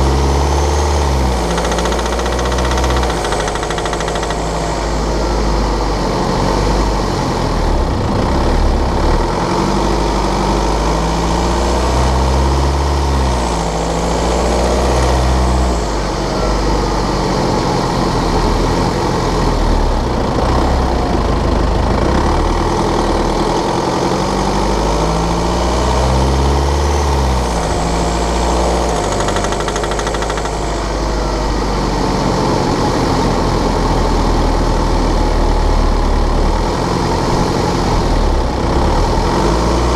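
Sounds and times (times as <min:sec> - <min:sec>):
diesel engine rattling: 0:00.0 - 0:39.9.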